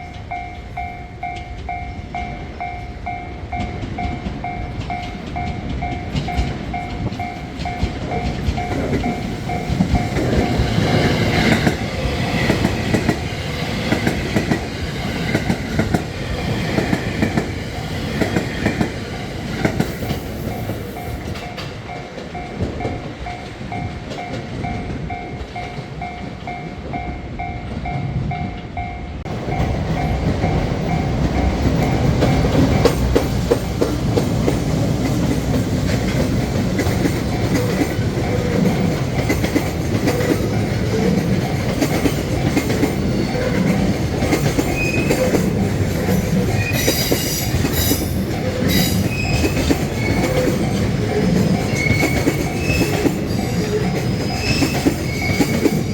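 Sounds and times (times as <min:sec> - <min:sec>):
level-crossing warning bell ringing: 0:00.0 - 0:55.9
train passing close by: 0:00.0 - 0:55.9.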